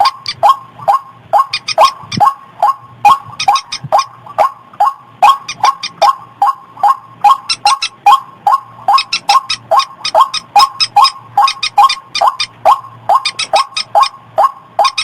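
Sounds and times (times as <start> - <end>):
bird calling hoarse notes: 0.0 - 15.0.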